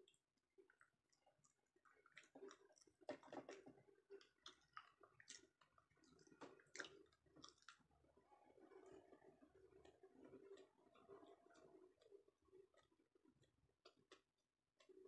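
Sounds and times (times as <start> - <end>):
faint chewing with mouth clicks: 0.0 - 15.0.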